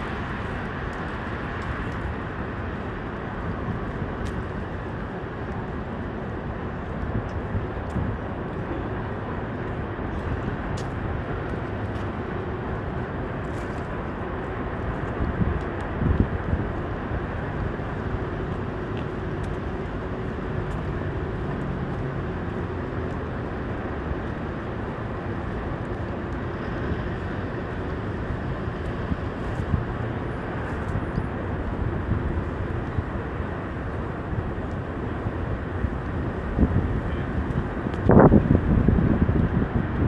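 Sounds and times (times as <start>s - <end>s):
traffic passing: 0.0s - 40.0s.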